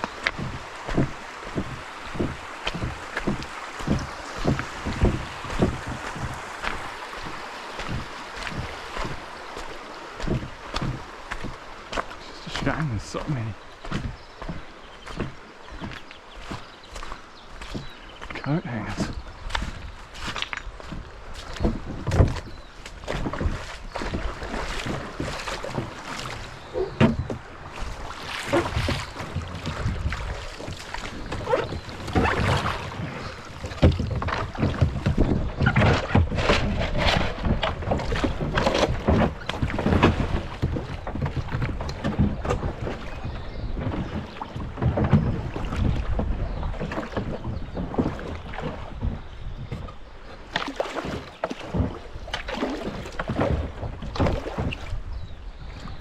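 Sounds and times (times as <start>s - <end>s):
wind on microphone: 0.0s - 18.2s, 18.9s - 50.3s, 51.8s - 56.0s
paddle splashing: 0.0s - 56.0s.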